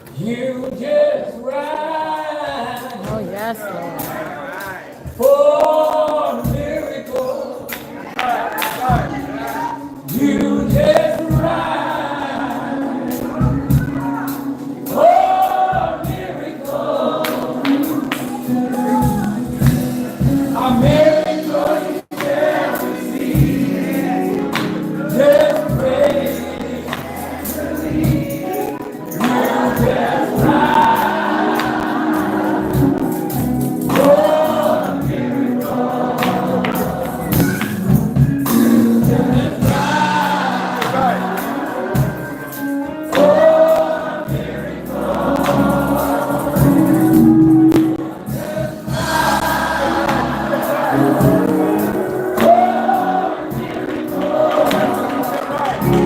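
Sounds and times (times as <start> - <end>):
band accompaniment: 0.0 - 56.0
gospel choir singing: 0.0 - 56.0.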